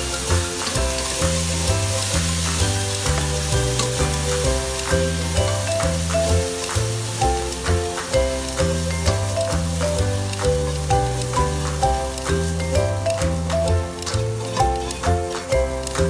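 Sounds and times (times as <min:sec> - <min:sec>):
background music with bass line: 0:00.0 - 0:16.0
meat sizzling in a frying pan: 0:00.0 - 0:16.0
spatula tapping and scraping pan: 0:00.0 - 0:16.0.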